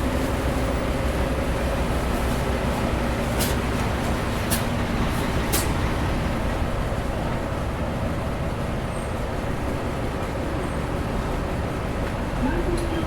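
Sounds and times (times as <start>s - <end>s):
bus engine running: 0.0s - 13.0s
road traffic rumble: 0.0s - 13.0s.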